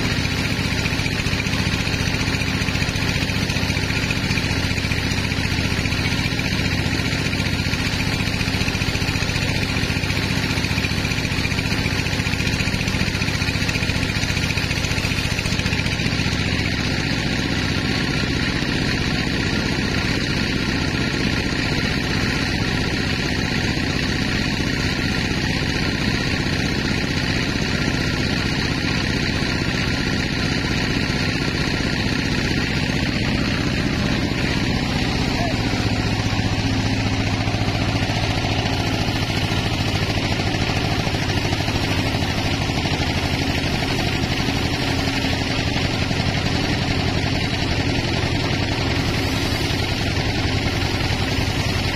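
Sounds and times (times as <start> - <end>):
band saw cutting log: 0.0 - 51.9.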